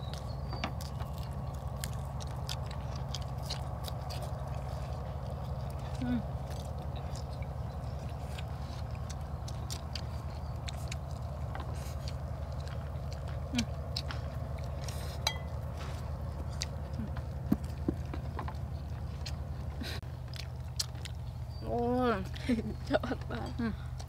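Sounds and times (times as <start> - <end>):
chewing and slurping: 0.0 - 21.7
steady low hum: 0.0 - 24.0.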